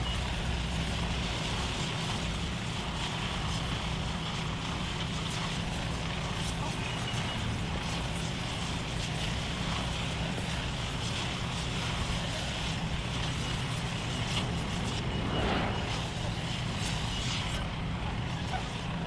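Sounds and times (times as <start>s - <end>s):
construction machinery diesel engine: 0.0s - 19.0s.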